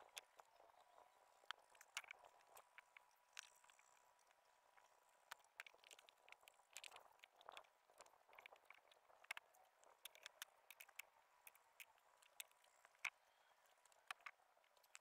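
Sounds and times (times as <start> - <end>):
faint clicks and taps: 1.4 - 15.0.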